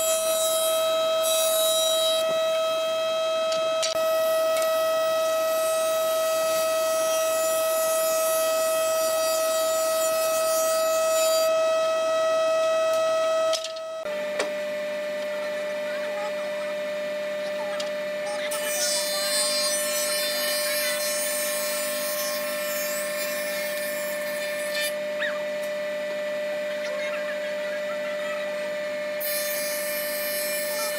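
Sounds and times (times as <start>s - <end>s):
jointer planing board whine: 0.0s - 30.9s
thickness planer running: 0.0s - 30.9s.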